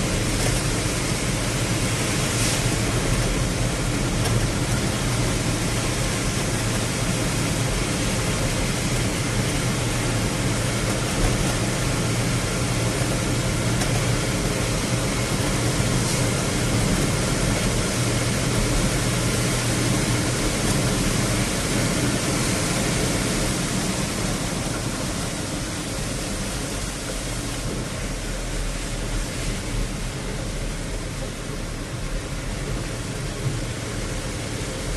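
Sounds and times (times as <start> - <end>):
heavy rain: 0.0 - 34.9
low vehicle engine hum: 0.0 - 34.9.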